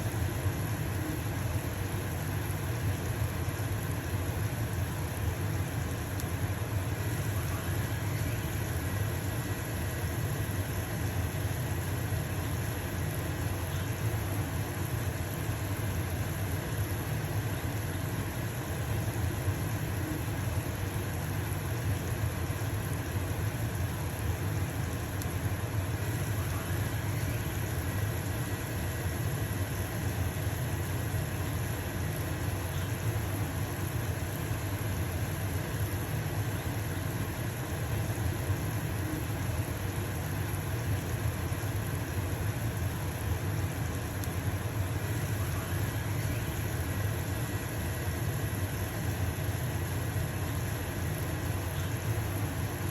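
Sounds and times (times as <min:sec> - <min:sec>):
range hood fan humming: 0:00.0 - 0:52.9.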